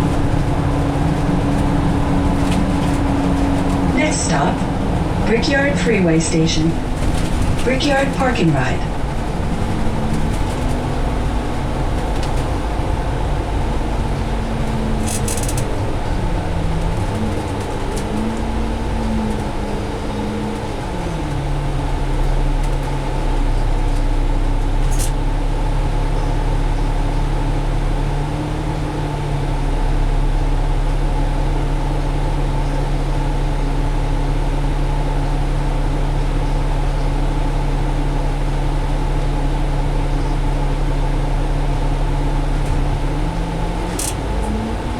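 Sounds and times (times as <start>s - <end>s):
bus diesel engine: 0.0s - 44.9s.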